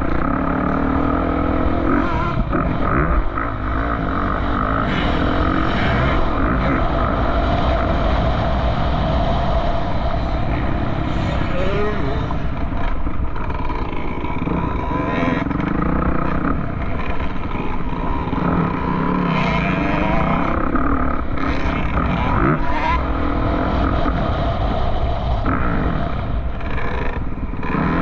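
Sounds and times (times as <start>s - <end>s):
low rumble: 0.0s - 28.0s
off-road engines revving: 0.0s - 28.0s.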